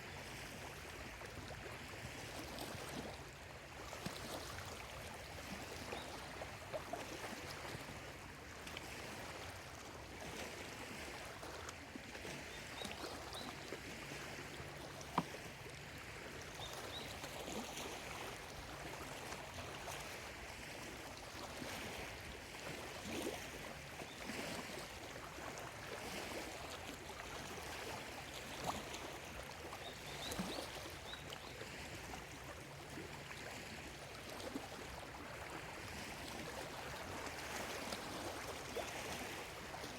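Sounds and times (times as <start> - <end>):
small water splashes: 0.0 - 39.9
waves lapping at shore: 0.0 - 39.9.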